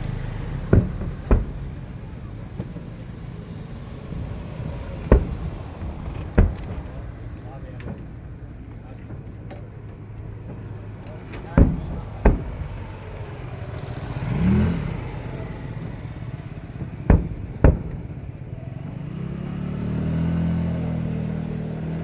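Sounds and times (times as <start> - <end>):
firework booms: 0.0 - 20.0
vehicle engine humming: 0.0 - 22.0.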